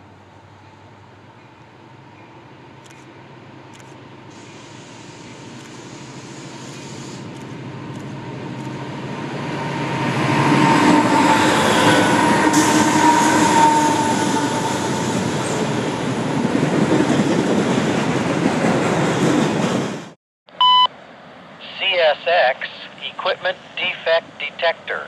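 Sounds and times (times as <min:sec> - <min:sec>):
train wheels rumbling on rails: 0:00.0 - 0:20.2.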